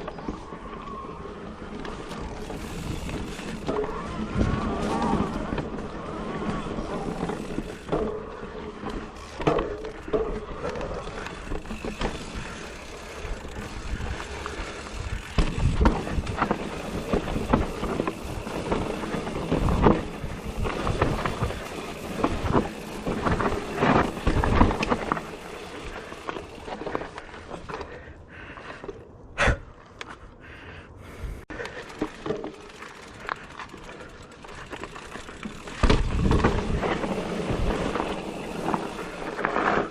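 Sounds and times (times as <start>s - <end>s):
tyres rumbling on dirt: 0.0s - 27.9s, 31.7s - 39.9s
bike rattling and clunking: 0.0s - 29.0s, 31.5s - 39.9s.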